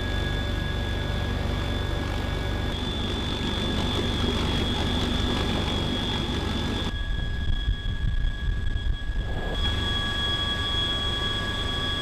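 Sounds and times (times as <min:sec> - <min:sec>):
helicopter engines and rotor: 0:00.0 - 0:12.0
steady high whine: 0:00.0 - 0:12.0.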